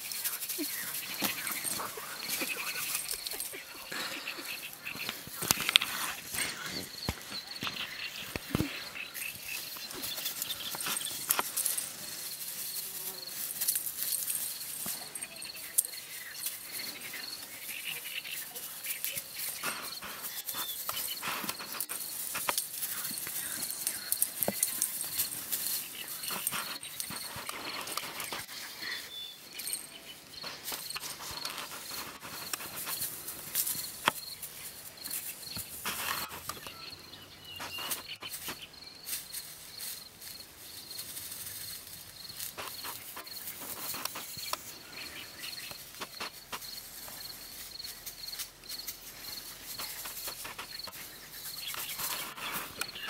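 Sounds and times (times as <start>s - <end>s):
insects chirping: 0.0s - 53.0s
rustling of long grass: 0.0s - 53.0s.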